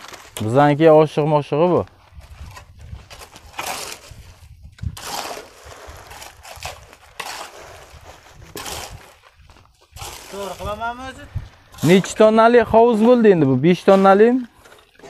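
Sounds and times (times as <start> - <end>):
trowel scraping cement: 2.3 - 15.0.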